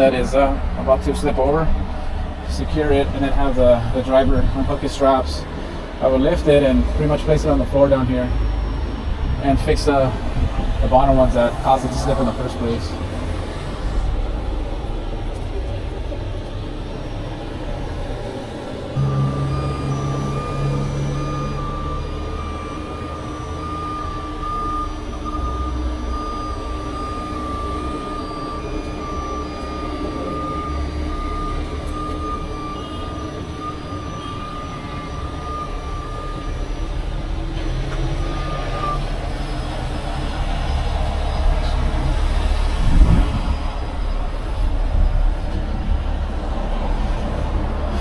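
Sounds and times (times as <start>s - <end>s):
truck backup alarm beeping: 0.0s - 48.0s
truck engine running: 0.0s - 48.0s.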